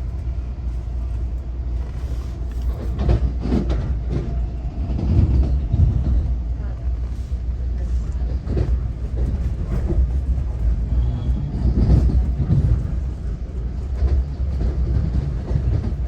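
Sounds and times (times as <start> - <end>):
train low rumble: 0.0 - 16.0
wheels rattling on track: 0.0 - 16.0.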